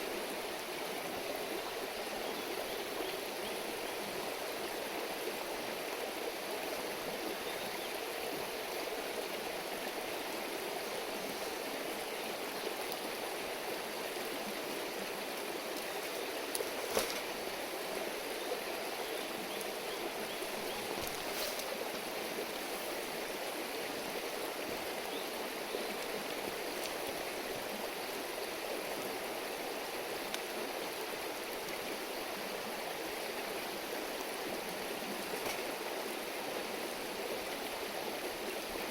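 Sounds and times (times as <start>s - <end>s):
river babbling over stones: 0.0s - 38.9s.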